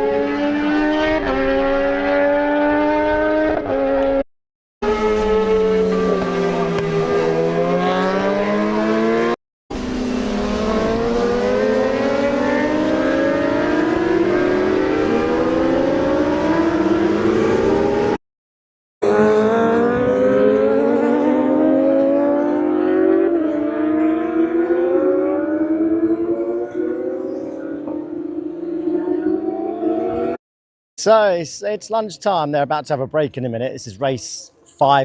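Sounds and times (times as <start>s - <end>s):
racing motorcycle engines accelerating: 0.0s - 4.2s, 4.8s - 18.2s, 19.0s - 30.4s.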